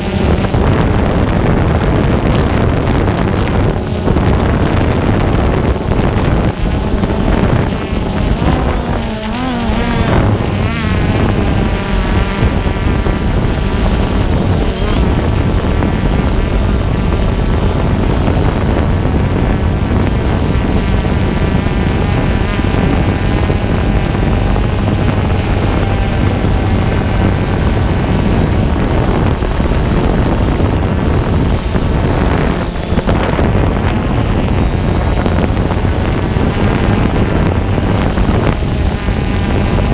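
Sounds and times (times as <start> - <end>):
drone propellers whirring: 0.0 - 39.9
wind buffeting microphone: 0.0 - 39.9.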